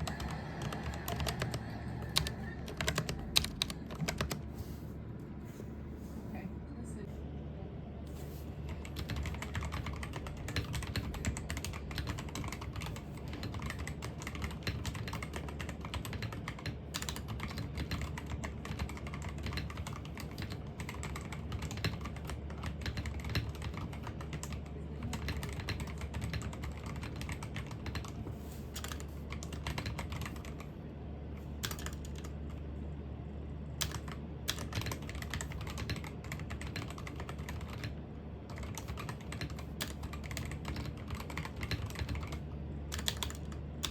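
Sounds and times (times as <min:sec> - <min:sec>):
computer keyboard typing: 0:00.0 - 0:04.5, 0:08.6 - 0:30.7, 0:31.4 - 0:32.6, 0:33.8 - 0:43.9
steady low hum: 0:00.0 - 0:43.9.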